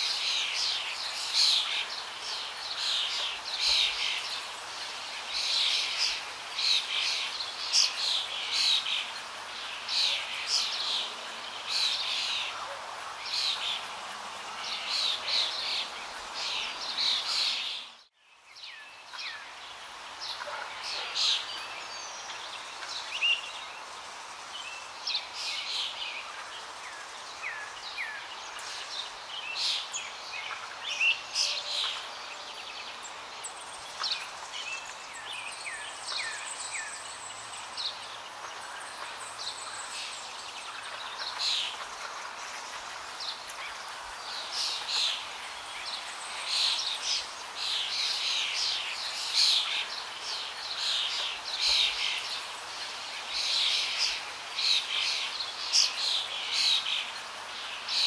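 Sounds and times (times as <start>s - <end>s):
background hiss: 0.0s - 58.0s
songbirds chirping and singing: 0.0s - 58.0s.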